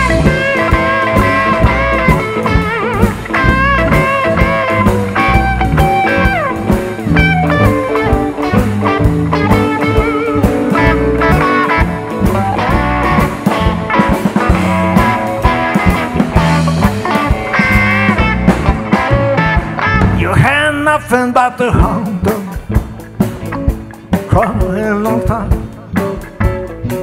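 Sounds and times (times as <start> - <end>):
drum kit groove: 0.0 - 27.0
electric bass: 0.0 - 27.0
lead electric guitar: 0.0 - 27.0.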